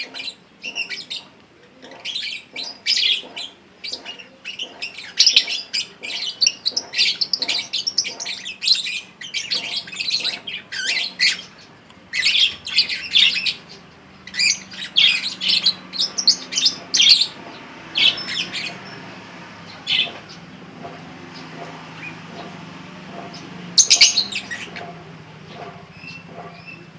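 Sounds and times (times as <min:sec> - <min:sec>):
lovebird chirping: 0:02.0 - 0:26.9.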